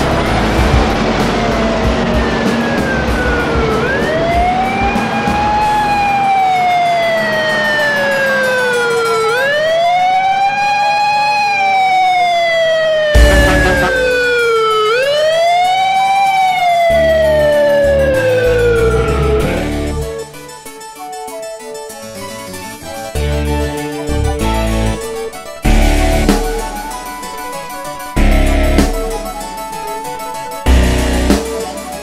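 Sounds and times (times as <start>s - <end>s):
emergency siren wailing: 0.0s - 20.5s, 23.1s - 32.0s.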